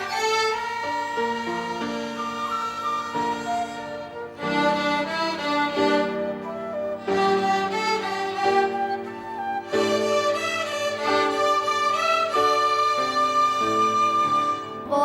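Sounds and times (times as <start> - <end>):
violin ensemble playing: 0.0 - 15.0.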